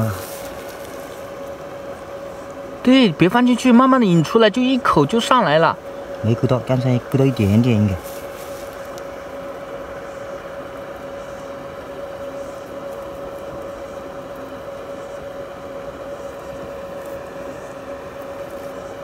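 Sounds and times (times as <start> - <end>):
steady mid-pitched hum: 0.0 - 19.0.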